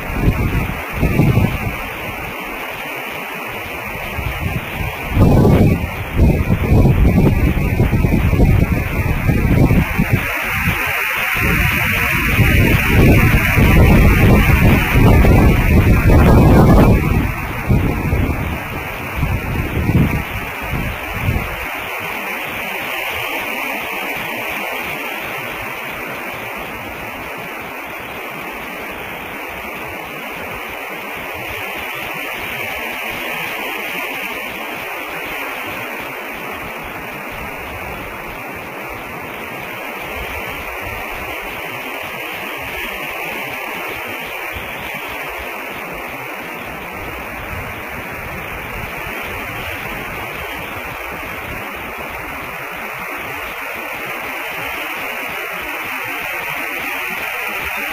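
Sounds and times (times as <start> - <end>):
static-like hiss: 0.0 - 57.9.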